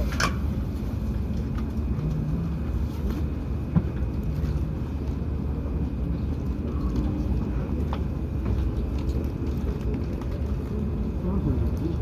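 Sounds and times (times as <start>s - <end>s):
train rumble from inside: 0.0s - 12.0s.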